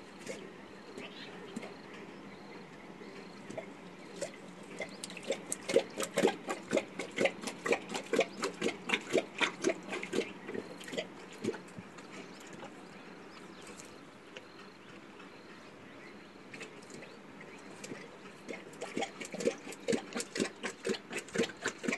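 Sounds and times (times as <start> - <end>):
lion lapping water: 0.0 - 21.9.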